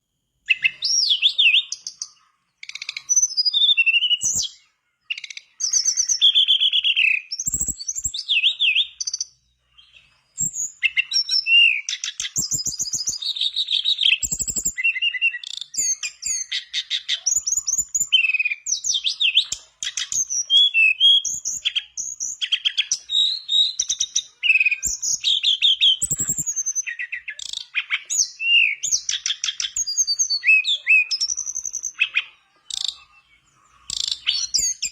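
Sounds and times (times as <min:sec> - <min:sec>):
songbird whistling and trilling: 0:00.5 - 0:34.9.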